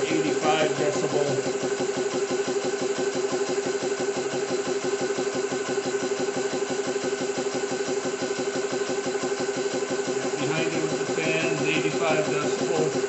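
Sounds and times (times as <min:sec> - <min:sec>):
air compressor pumping: 0:00.0 - 0:13.0
cooling fans running: 0:00.0 - 0:13.0.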